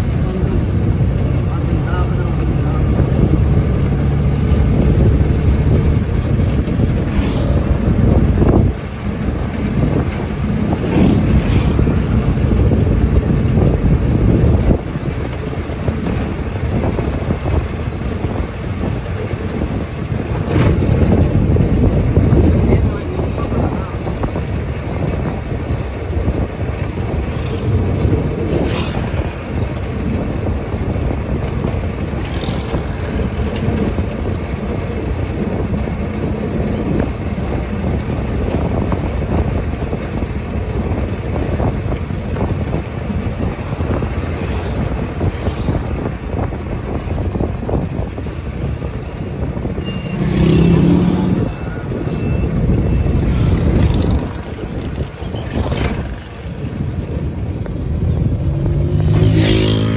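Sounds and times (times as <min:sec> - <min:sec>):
vehicle engine cruising: 0:00.0 - 0:59.9
wind on microphone: 0:00.0 - 0:59.9.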